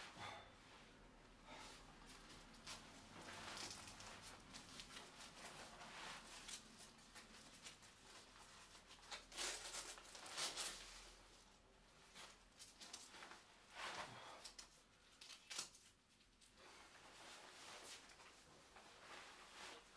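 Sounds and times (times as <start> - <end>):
fabric and straps rustling: 0.0 - 19.9.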